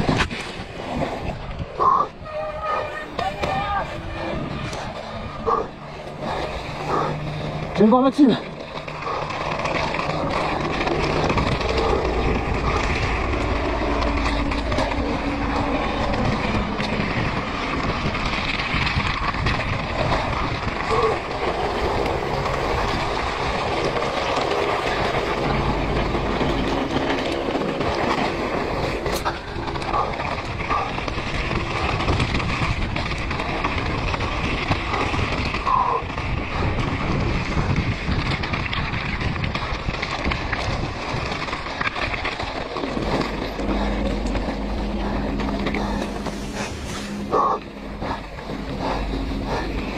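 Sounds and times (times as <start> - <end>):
bike rattling: 0.0 - 49.9
wind rumble on microphone: 0.0 - 49.9
tyres crunching over stones: 6.0 - 49.9.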